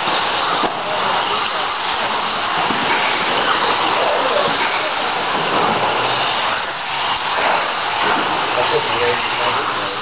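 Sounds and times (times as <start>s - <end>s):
electric rc cars racing on dirt: 0.0s - 10.0s.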